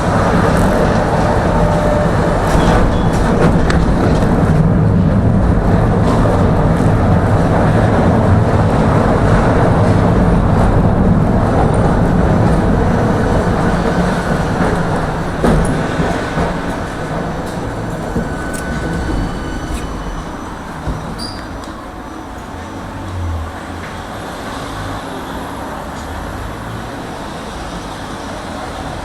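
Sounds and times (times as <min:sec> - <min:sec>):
tram wheels rumbling on rails: 0:00.0 - 0:29.0.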